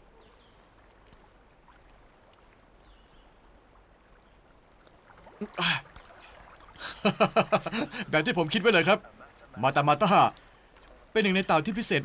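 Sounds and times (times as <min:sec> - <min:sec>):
shallow water sloshing: 0:00.0 - 0:11.7.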